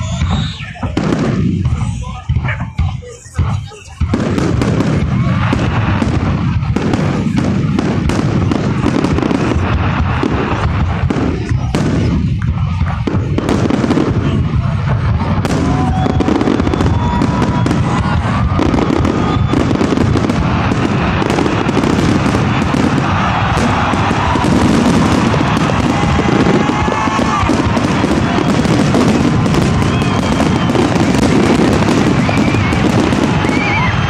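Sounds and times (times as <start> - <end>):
fireworks bangs and crackling: 0.0 - 34.0
whistling fireworks: 0.0 - 34.0.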